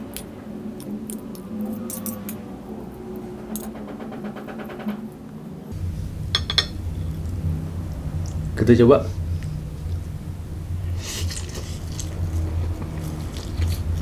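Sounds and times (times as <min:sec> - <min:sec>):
low rumble: 0:00.6 - 0:14.0.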